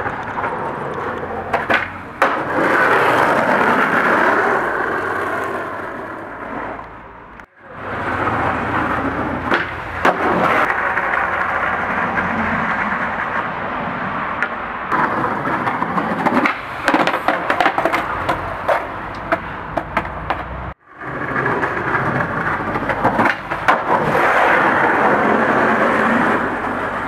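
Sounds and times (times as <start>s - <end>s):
skateboard clacking on ground: 0.0s - 13.5s, 14.4s - 27.0s
skateboard rolling on asphalt: 0.0s - 27.0s.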